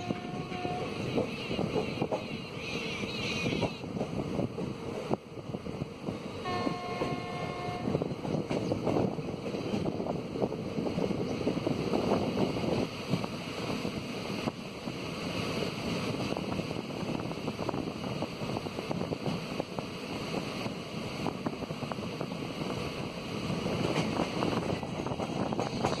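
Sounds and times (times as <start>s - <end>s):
train wheels rumbling on rail: 0.0s - 26.0s
wind buffeting microphone: 0.0s - 26.0s.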